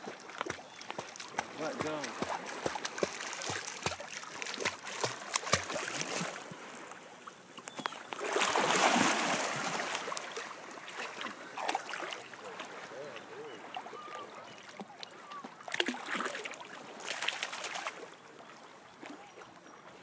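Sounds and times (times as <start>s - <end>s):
water splashing from swimming dog: 0.0s - 7.0s, 7.7s - 18.1s.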